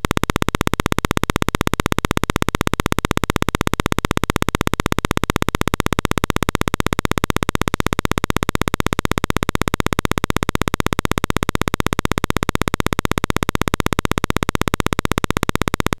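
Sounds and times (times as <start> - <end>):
rapid clicking buzz: 0.0 - 16.0.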